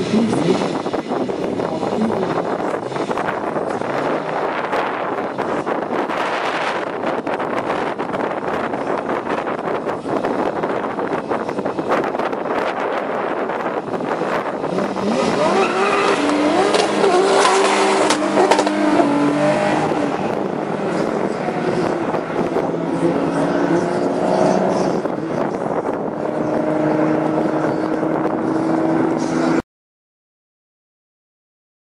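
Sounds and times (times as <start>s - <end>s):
car engines revving: 0.0s - 29.6s.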